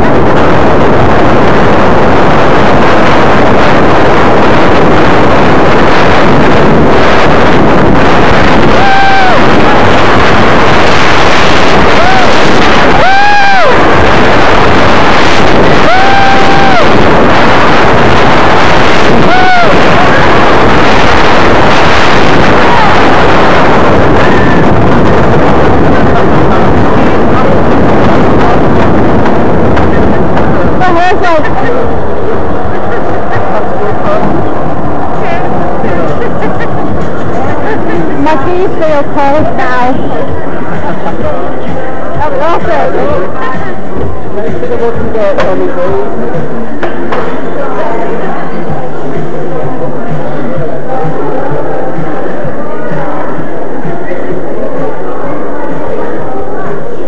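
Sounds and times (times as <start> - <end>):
wind buffeting microphone: 0.0 - 54.9
roller coaster rumbling on track: 0.0 - 57.0.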